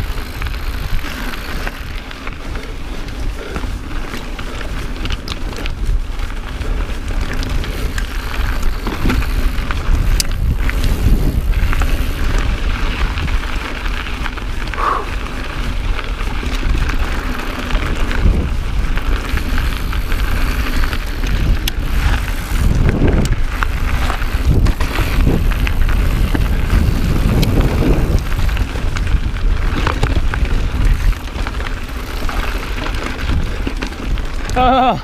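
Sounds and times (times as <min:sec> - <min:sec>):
bike clicks and knocks over bumps: 0:00.0 - 0:35.0
bike tyres crunching on gravel: 0:00.0 - 0:35.0
wind rumbling on microphone: 0:00.0 - 0:35.0.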